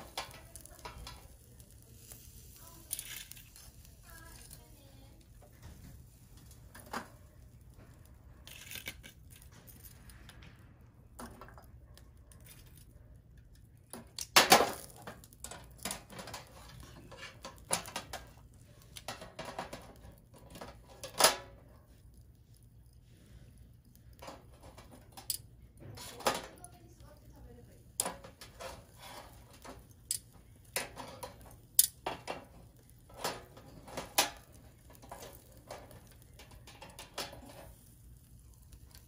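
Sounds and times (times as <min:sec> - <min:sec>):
metal tongs clinking on grill grate: 0:00.0 - 0:09.9, 0:11.2 - 0:22.2, 0:23.8 - 0:39.0.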